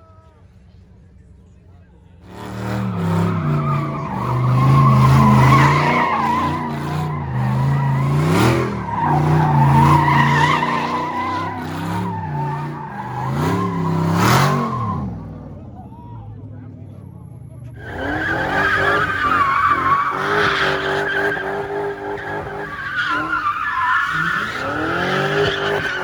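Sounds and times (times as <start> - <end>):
car engine revving: 2.2 - 26.0
tyres squealing: 2.3 - 15.3, 17.8 - 26.0.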